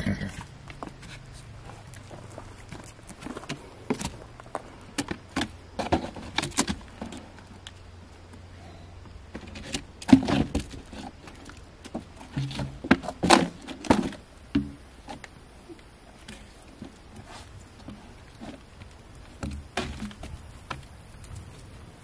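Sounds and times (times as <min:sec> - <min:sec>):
hooves thudding on logs and dirt: 0:00.0 - 0:22.0.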